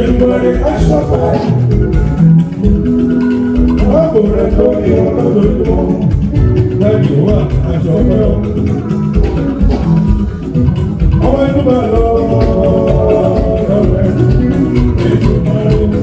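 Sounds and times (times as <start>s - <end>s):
driving percussion beat: 0.0s - 16.0s
person singing: 0.0s - 16.0s
plucked guitars: 0.0s - 16.0s.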